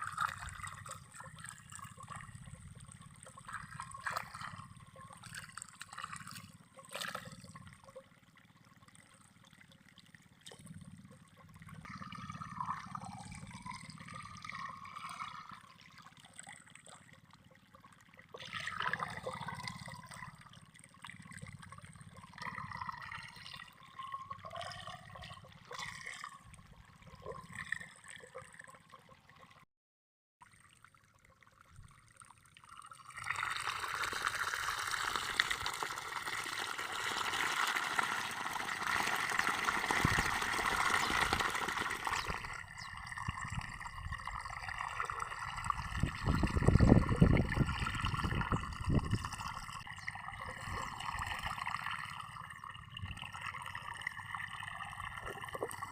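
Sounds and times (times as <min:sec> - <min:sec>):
water trickling and gurgling: 0:00.0 - 0:29.7, 0:30.4 - 0:55.9.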